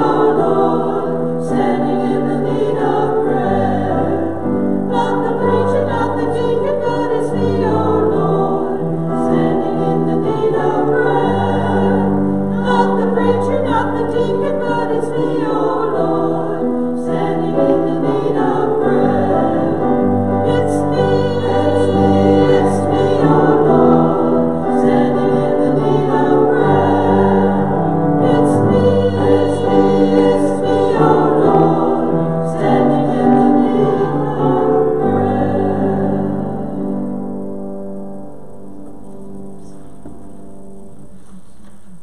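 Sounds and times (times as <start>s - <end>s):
choir singing in harmony: 0.0s - 38.4s.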